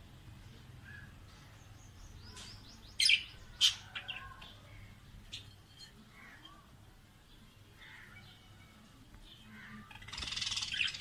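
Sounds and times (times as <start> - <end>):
soft bird chirps: 0.3 - 11.0.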